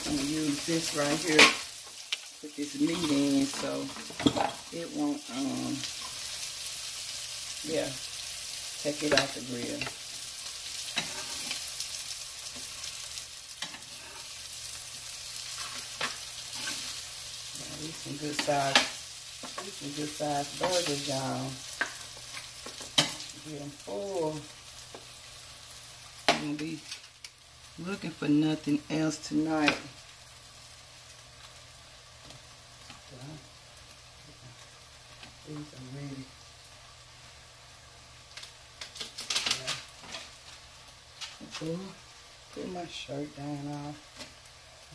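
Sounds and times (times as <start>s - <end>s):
patties sizzling on griddle: 0.0s - 44.9s.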